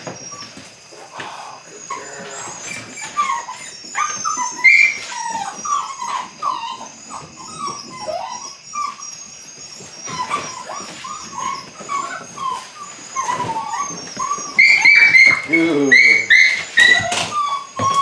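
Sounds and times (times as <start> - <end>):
puppy whining and yipping: 0.0 - 1.0, 1.6 - 18.0.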